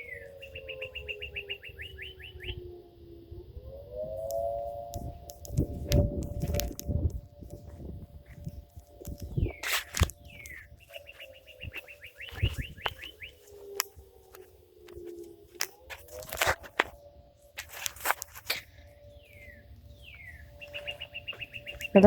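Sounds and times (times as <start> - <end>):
songbirds chirping: 0.0 - 3.2, 6.6 - 22.0
distant fire siren: 0.0 - 22.0.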